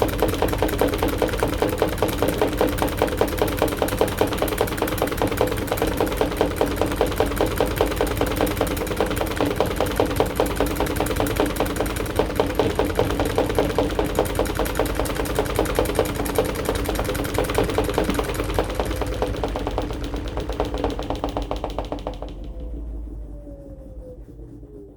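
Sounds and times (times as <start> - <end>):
washing machine rattling: 0.0 - 22.7
washing machine motor hum: 0.0 - 24.9.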